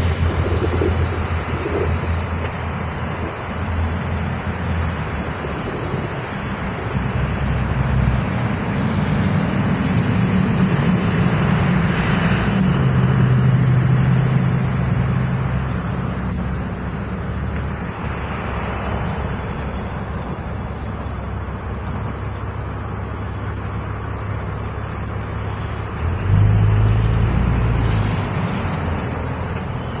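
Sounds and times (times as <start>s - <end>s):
road traffic rush: 0.0s - 30.0s
vehicle engine hum: 0.0s - 30.0s.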